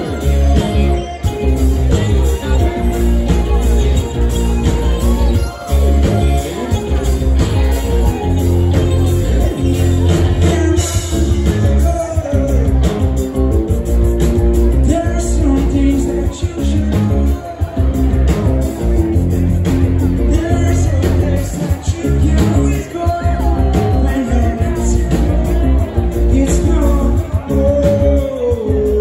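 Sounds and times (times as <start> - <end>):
sung vocals: 0.0 - 13.7, 14.7 - 19.2, 20.1 - 29.0
live rock band playing: 0.0 - 29.0.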